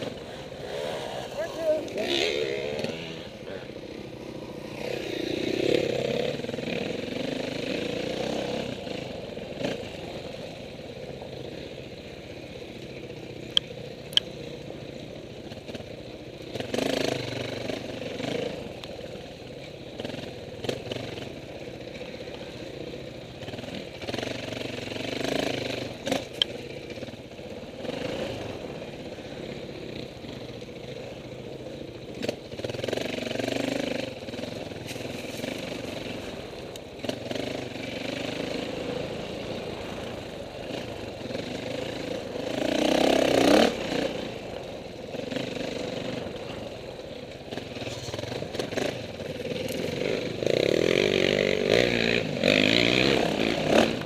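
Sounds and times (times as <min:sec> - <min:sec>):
off-road motorcycle engines revving: 0:00.0 - 0:54.0.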